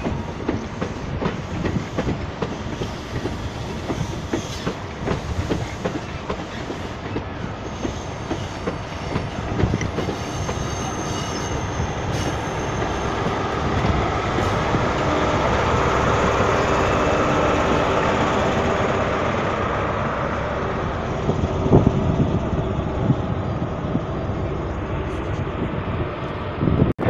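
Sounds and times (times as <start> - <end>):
train wheels rumbling and clattering: 0.0 - 26.9.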